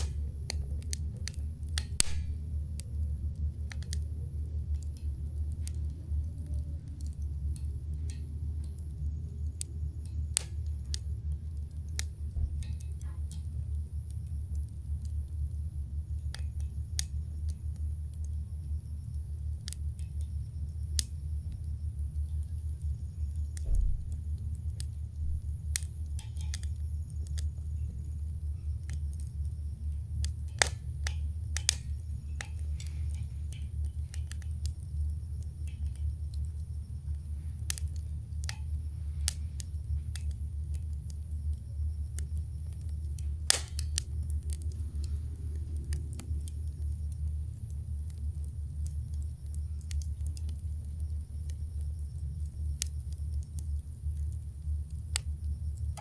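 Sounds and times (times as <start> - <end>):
campfire crackling and popping: 0.0 - 56.0
steady low rumble: 0.0 - 56.0.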